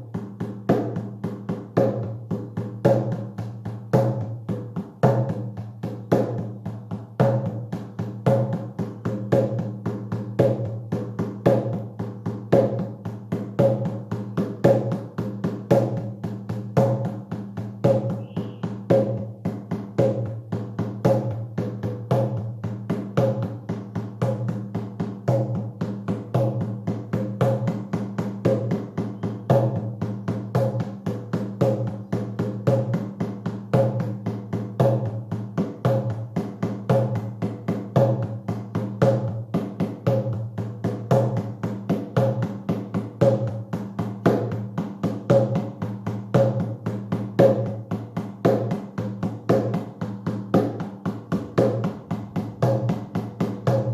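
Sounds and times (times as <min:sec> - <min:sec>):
drum beaten in fast rhythm: 0:00.0 - 0:53.9.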